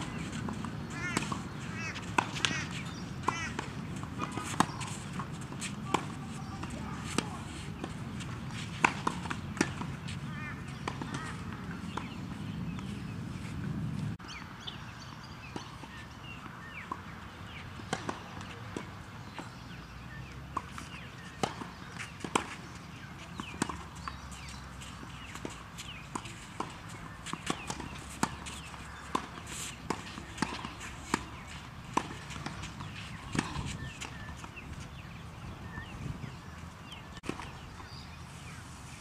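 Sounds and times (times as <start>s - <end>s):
tennis balls struck by rackets: 0.0s - 13.2s, 15.2s - 38.1s
birds chirping: 0.0s - 13.6s, 14.2s - 39.0s.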